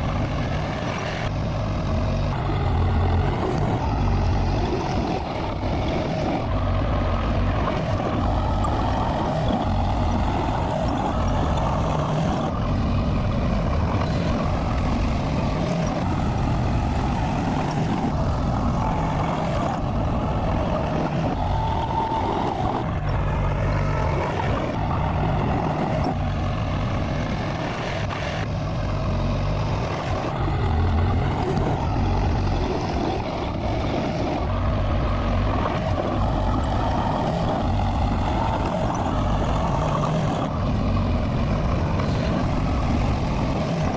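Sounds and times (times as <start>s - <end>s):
bulldozer diesel engine rumbling: 0.0s - 43.9s.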